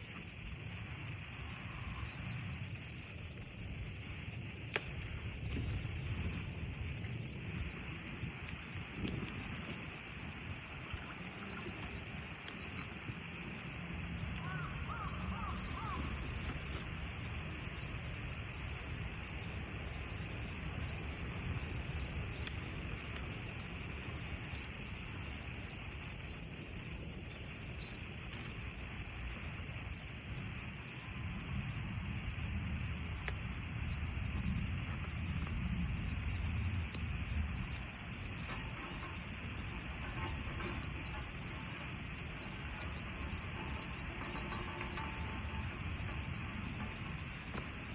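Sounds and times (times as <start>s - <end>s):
crickets and insects trilling: 0.0s - 47.9s.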